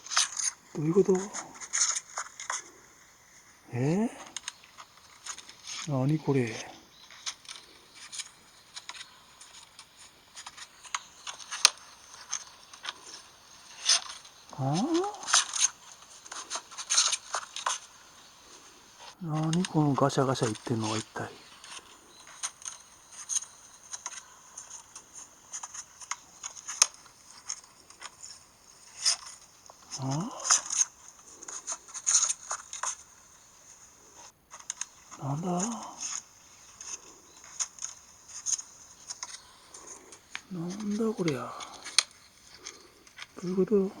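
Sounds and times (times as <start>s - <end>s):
crackling clicks from phone speaker: 4.2s - 44.0s.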